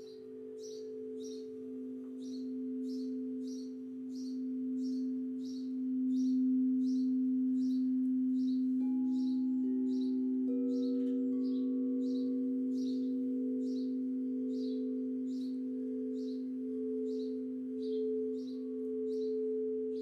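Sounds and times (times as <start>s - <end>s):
bird chirping: 0.0s - 20.0s
singing bowls ringing drone: 0.0s - 20.0s.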